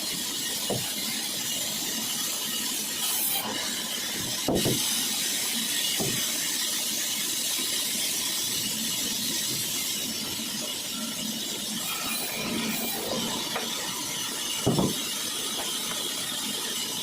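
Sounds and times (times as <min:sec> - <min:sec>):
saw cutting through wood: 0:00.0 - 0:07.2, 0:07.8 - 0:17.0.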